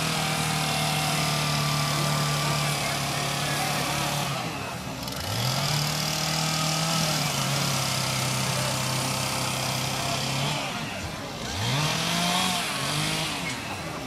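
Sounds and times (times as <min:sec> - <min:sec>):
small engine revving: 0:00.0 - 0:14.0.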